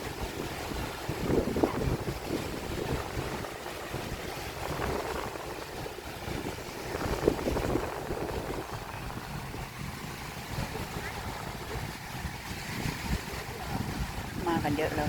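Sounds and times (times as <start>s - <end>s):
sea waves breaking: 0.0s - 15.0s
wind buffeting microphone: 0.0s - 15.0s.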